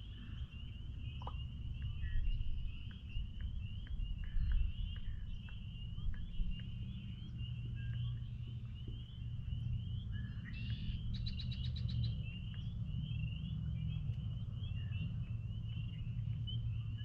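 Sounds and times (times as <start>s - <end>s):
frogs peeping chorus: 0.0s - 17.0s.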